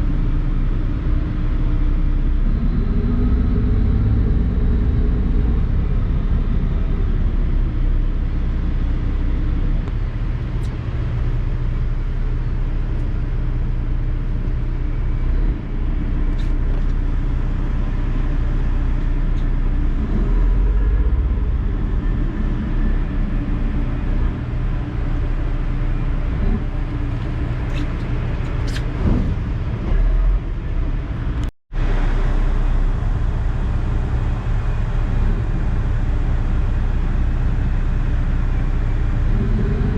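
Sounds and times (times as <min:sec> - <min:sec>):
ferry engines droning: 0:00.0 - 0:39.9.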